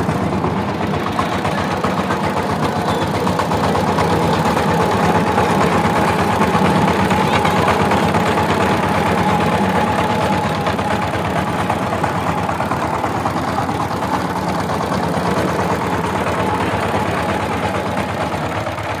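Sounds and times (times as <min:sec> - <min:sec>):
diesel tiller engine knocking: 0:00.0 - 0:19.0
high engine whine: 0:00.0 - 0:19.0.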